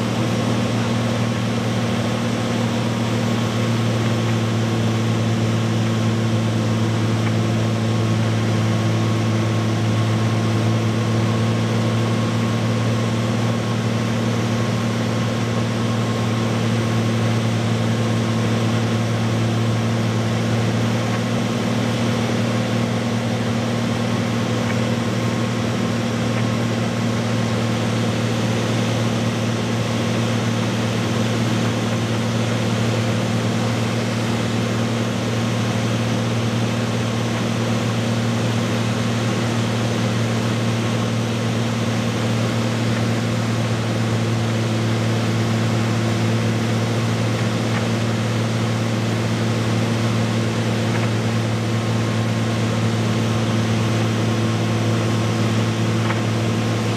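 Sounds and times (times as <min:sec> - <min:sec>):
light aircraft engine drone: 0:00.0 - 0:56.9.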